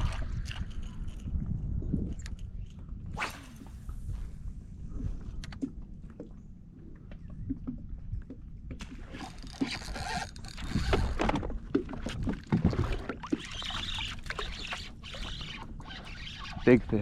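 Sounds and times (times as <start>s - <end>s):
water splashing and sloshing: 0.0s - 1.4s, 3.2s - 17.0s.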